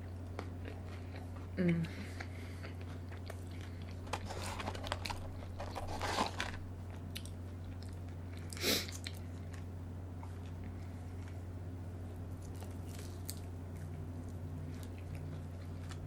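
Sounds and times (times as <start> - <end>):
chewing crunchy food: 0.0 - 16.0
steady low hum: 0.0 - 16.0.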